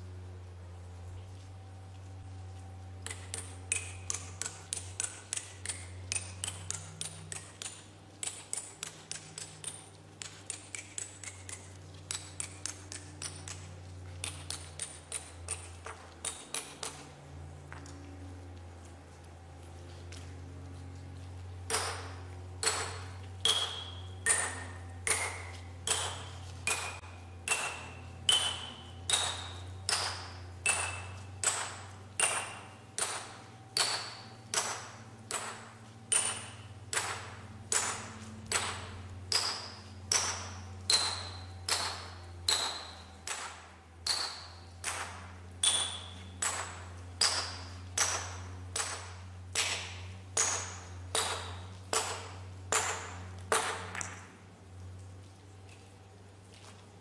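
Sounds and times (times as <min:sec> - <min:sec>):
hammer striking steel wedges: 0:03.0 - 0:17.0, 0:21.7 - 0:54.2.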